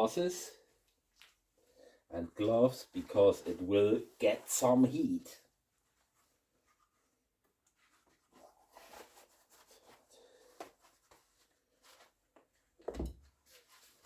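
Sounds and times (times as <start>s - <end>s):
rustling and scraping handling noises: 2.4s - 14.0s.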